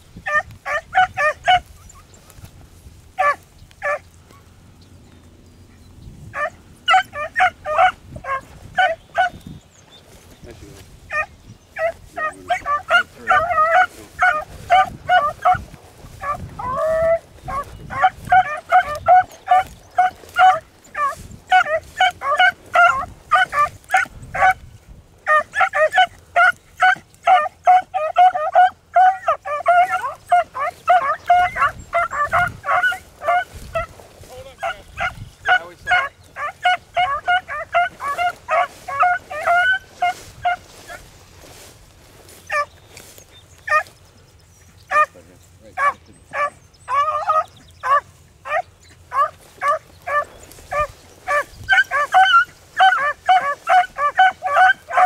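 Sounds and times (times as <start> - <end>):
dogs baying: 0.2 - 2.4, 3.1 - 4.5, 6.3 - 9.4, 11.0 - 44.0, 44.8 - 55.0.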